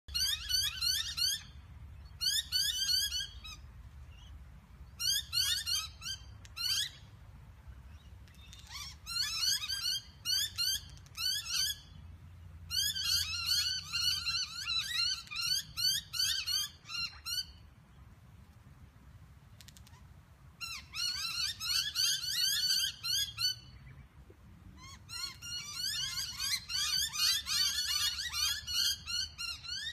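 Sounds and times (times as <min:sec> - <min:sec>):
flock of birds chirping: 0:00.1 - 0:18.6, 0:19.6 - 0:29.9.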